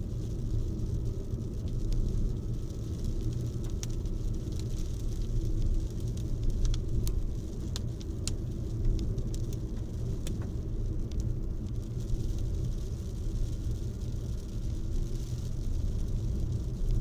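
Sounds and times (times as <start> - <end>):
rain and wind rumble: 0.0 - 17.0.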